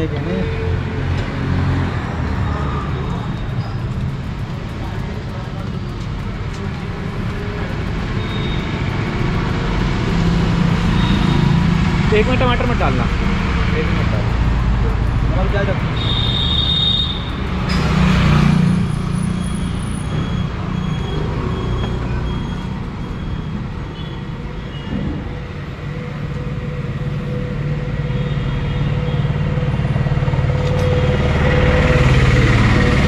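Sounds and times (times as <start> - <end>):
street traffic: 0.0 - 33.0
vehicle engine rumbling: 0.0 - 33.0.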